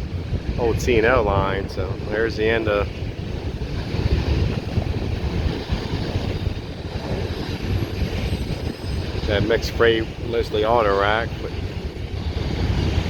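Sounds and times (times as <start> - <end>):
freight train wheels rumbling on rail: 0.0 - 13.0
wind buffeting microphone: 0.0 - 13.0.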